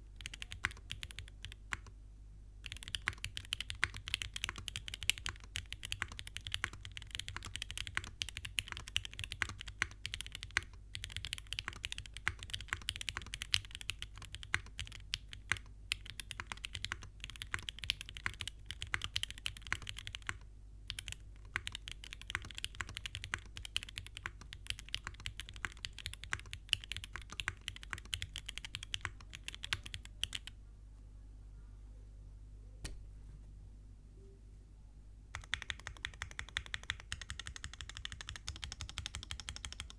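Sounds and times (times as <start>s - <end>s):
mechanical keyboard typing: 0.2s - 1.9s, 2.6s - 30.5s, 35.3s - 39.9s.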